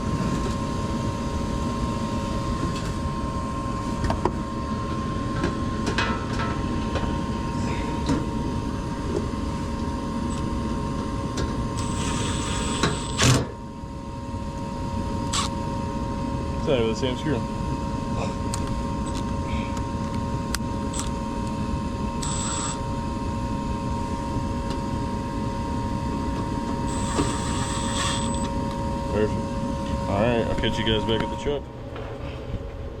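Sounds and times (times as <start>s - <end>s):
gas furnace humming: 0.0s - 33.0s.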